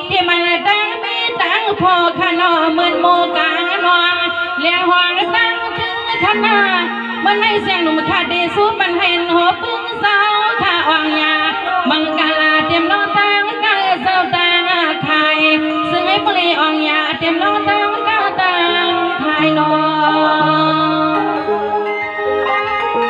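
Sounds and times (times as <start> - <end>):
woman singing into a microphone: 0.0 - 21.9
instrumental accompaniment: 0.0 - 23.0.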